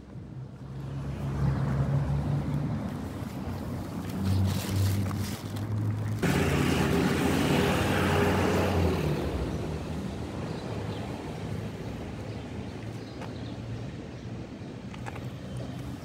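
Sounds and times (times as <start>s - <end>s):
engine hum: 0.2s - 16.0s.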